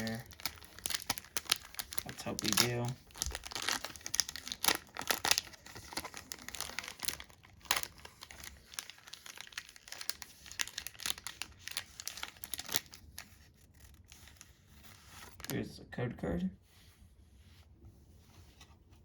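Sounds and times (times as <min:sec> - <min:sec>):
foil wrapper crinkling and tearing: 0:00.0 - 0:15.6.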